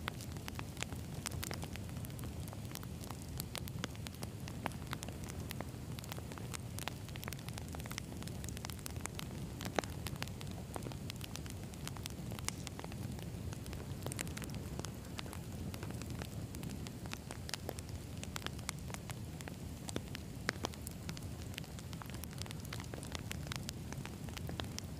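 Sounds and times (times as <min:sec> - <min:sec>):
campfire flames rumbling: 0:00.0 - 0:24.9
logs crackling and popping: 0:00.0 - 0:24.9.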